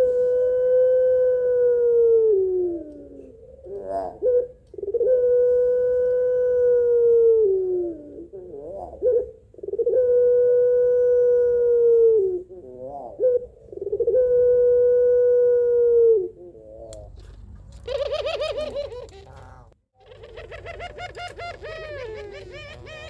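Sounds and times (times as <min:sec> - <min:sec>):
dove cooing: 0:00.0 - 0:17.2, 0:17.8 - 0:23.0
dove rolling wavering call: 0:00.0 - 0:17.2, 0:17.8 - 0:19.3, 0:20.0 - 0:23.0.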